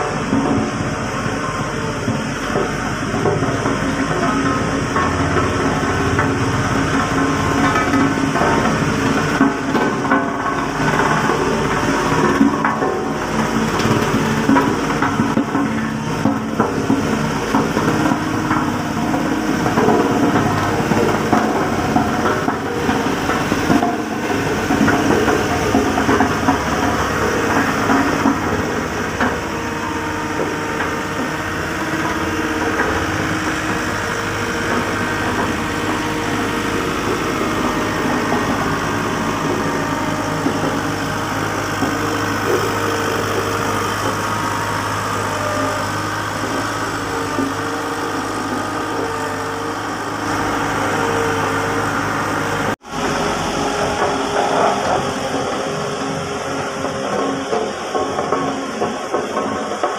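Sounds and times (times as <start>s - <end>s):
road roller diesel engine droning: 0.0s - 59.9s.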